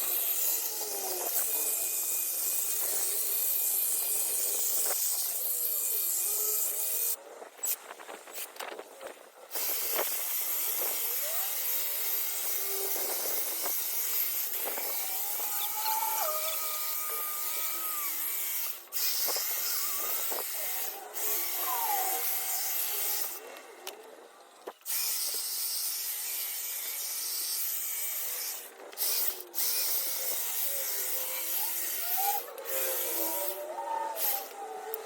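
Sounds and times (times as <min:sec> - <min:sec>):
hedge trimmer cutting foliage: 0:00.0 - 0:07.2, 0:09.5 - 0:24.0, 0:24.7 - 0:35.0.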